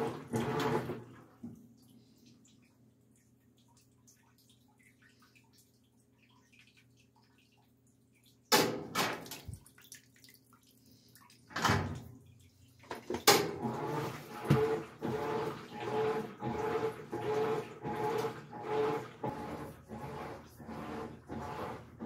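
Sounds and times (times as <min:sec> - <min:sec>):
washing machine running hum: 0:00.0 - 0:09.9, 0:11.5 - 0:22.0.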